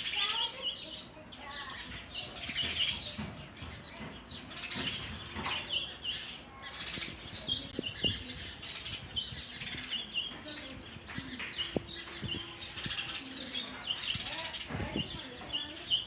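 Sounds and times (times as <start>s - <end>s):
nestlings chirping: 0.0s - 16.0s.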